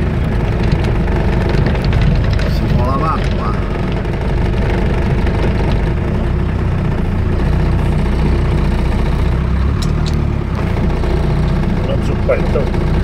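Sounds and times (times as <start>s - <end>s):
vehicle engine running at low revs: 0.0s - 13.0s.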